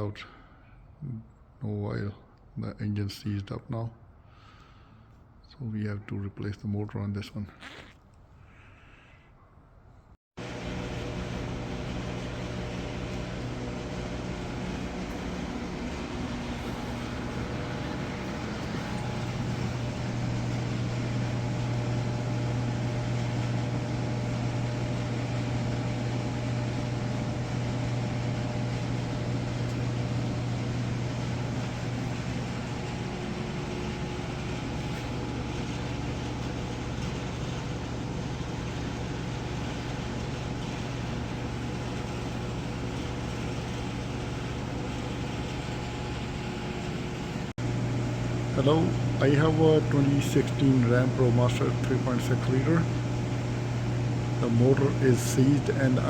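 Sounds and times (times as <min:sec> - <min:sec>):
mechanical hum with low drone: 0:00.0 - 0:56.0.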